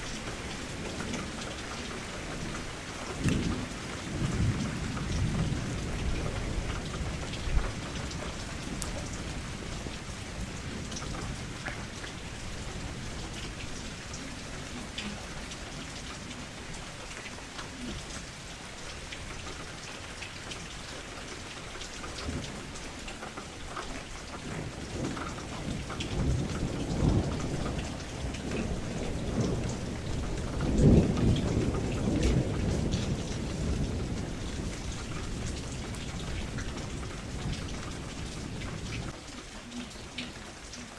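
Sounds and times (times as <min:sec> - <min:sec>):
low rolling thunder: 0:00.0 - 0:19.5, 0:24.3 - 0:40.3
rain against a window: 0:00.0 - 0:40.9
ticks of single raindrops: 0:00.0 - 0:40.9.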